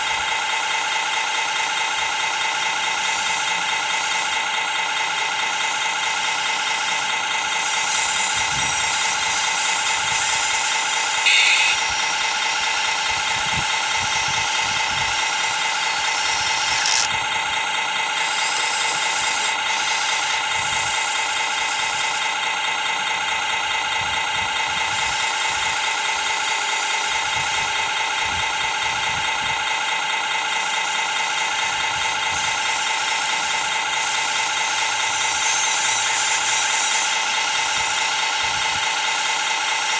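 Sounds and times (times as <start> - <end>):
model excavator motor whine: 0.0 - 39.9.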